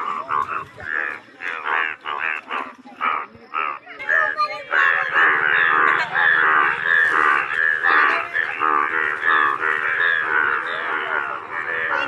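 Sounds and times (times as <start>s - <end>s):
chorus of bullfrogs croaking: 0.0s - 12.0s.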